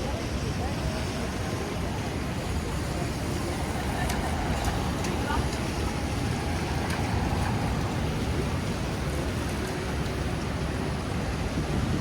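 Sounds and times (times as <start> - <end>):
low rumble of traffic: 0.0 - 12.0
steady rain on street: 0.0 - 12.0.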